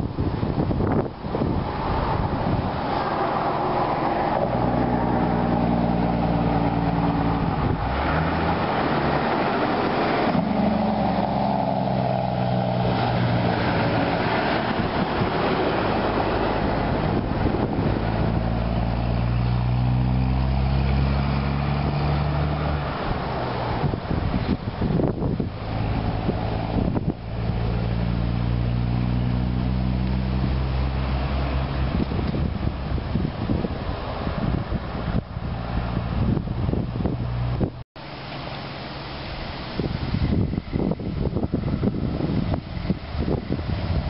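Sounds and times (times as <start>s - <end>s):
truck diesel engine: 0.0s - 44.0s
tyre and road noise: 0.0s - 44.0s.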